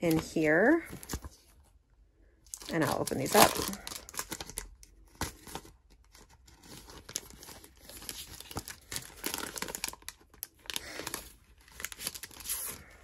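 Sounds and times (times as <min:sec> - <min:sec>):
plastic packaging crinkling: 0:02.5 - 0:13.0.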